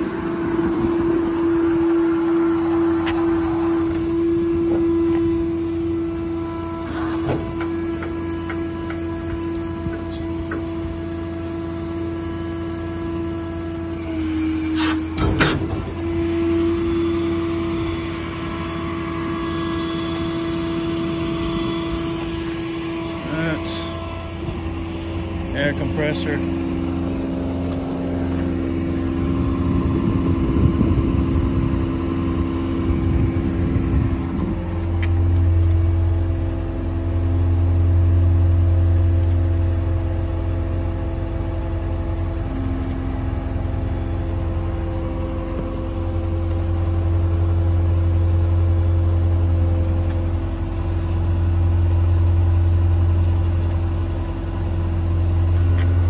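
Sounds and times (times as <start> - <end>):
air compressor humming: 0.0 - 56.0.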